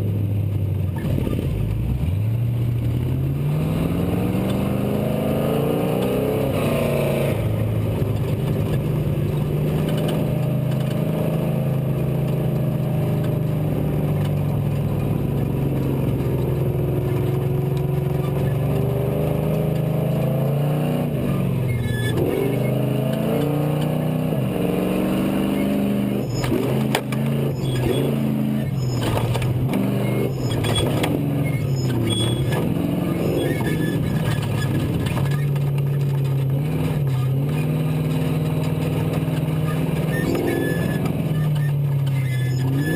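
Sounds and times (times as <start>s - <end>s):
truck engine revving: 1.0s - 42.9s.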